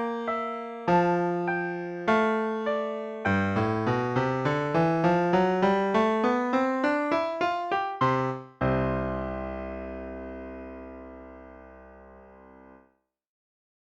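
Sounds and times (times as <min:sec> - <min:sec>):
piano music: 0:00.0 - 0:12.8.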